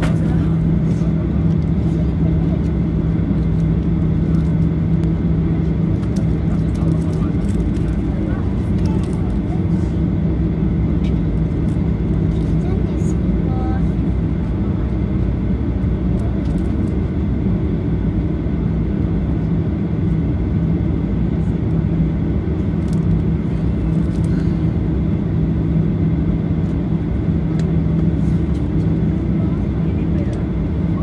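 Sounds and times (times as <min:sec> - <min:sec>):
airplane cabin engine hum: 0:00.0 - 0:31.0.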